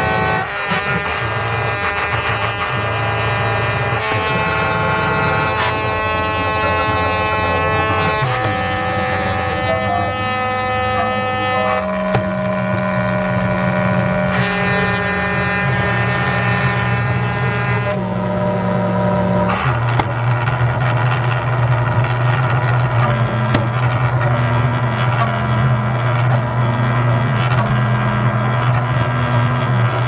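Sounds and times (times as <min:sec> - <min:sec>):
calliope chords: 0:00.0 - 0:30.0
flames roaring: 0:00.0 - 0:30.0.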